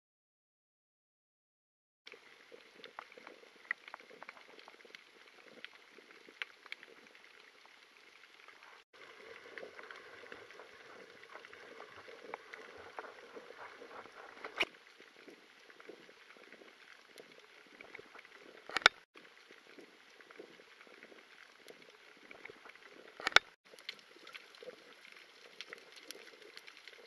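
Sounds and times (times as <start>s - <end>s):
underwater crackling clicks: 2.1s - 27.0s.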